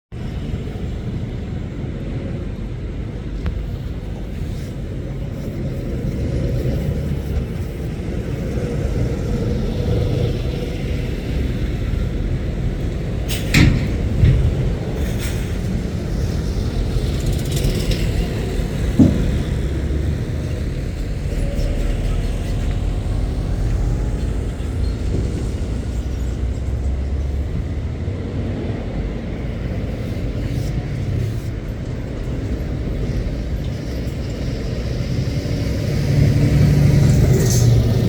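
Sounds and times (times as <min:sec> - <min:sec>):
lorry diesel engines rumbling: 0:00.1 - 0:38.0.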